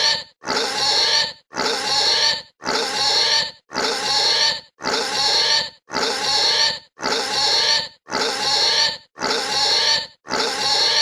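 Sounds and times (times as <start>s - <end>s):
pig squealing: 0.0s - 11.0s.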